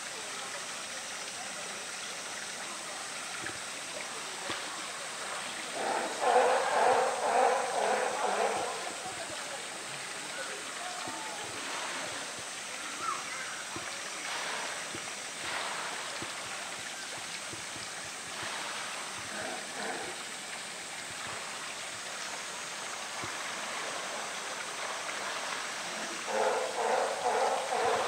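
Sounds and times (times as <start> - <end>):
water sloshing and splashing: 3.2 - 28.0.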